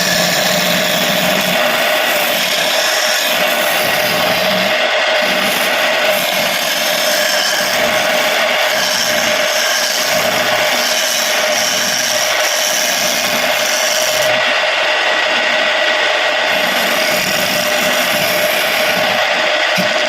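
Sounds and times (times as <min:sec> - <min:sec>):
turning tool scraping wood: 0:00.0 - 0:14.4, 0:16.5 - 0:20.0
wood lathe motor whine: 0:00.0 - 0:20.0.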